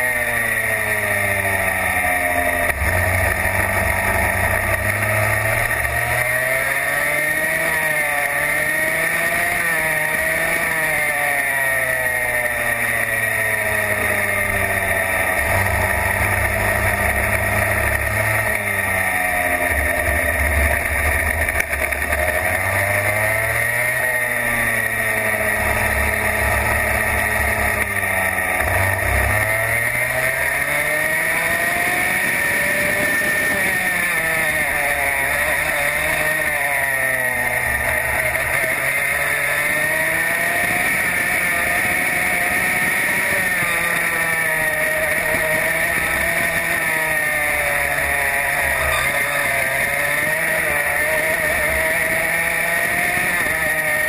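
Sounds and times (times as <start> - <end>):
kart engine revving: 0.0 - 54.0
steady high whine: 0.0 - 54.0.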